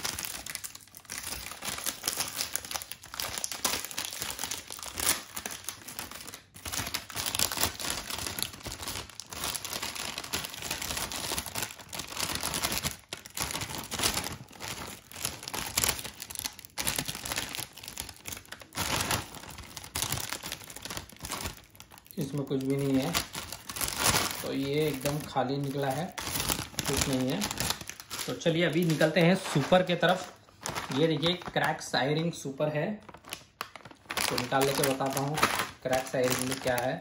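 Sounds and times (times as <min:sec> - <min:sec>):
snack packet crinkling: 0:00.0 - 0:37.0.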